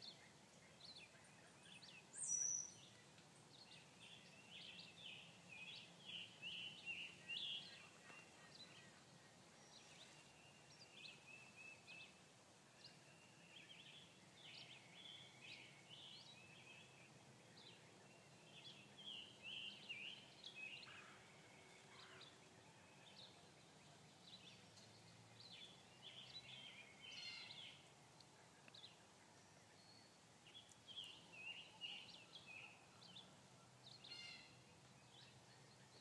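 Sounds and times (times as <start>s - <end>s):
faint birds chirping: 0.0s - 36.0s
low outdoor hiss: 0.0s - 36.0s.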